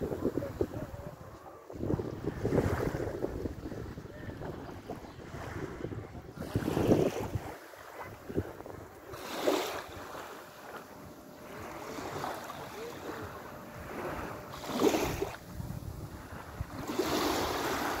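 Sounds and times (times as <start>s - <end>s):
small waves washing on shore: 0.0s - 18.0s
wind buffeting microphone: 0.0s - 18.0s.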